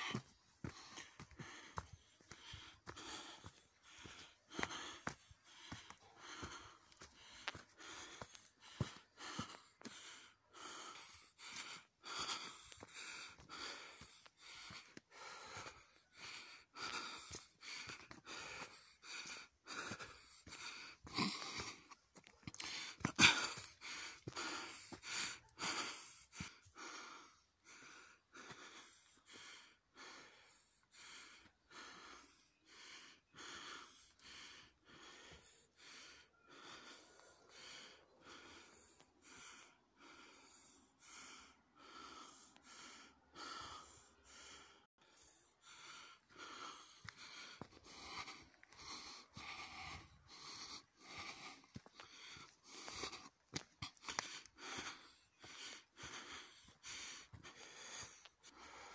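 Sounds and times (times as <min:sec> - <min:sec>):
person breathing hard: 0:00.0 - 0:58.9.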